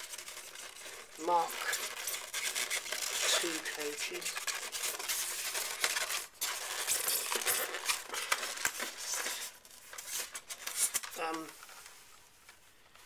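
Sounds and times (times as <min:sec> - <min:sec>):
scratchy rubbing on plastic tray: 0:00.0 - 0:11.0.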